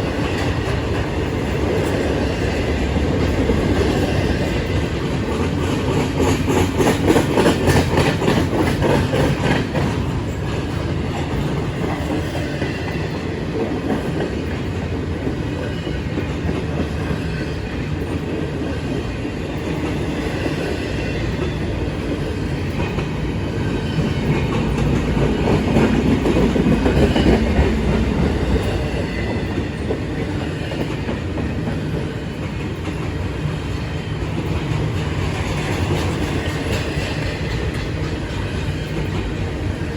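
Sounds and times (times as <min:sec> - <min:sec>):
train rolling past: 0:00.0 - 0:39.9
wheels clicking over rail joints: 0:00.1 - 0:39.9.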